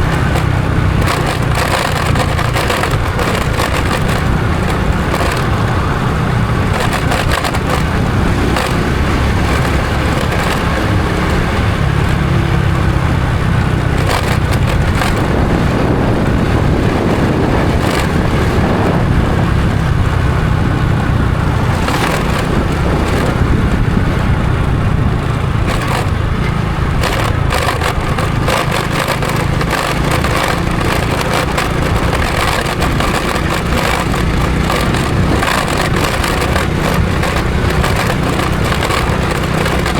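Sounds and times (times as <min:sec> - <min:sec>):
crackling clicks: 0:00.0 - 0:12.8, 0:13.8 - 0:15.9, 0:17.0 - 0:19.0, 0:21.4 - 0:23.4, 0:25.2 - 0:39.9
motorcycle engine running: 0:00.0 - 0:39.9
road and wind noise: 0:00.0 - 0:39.9.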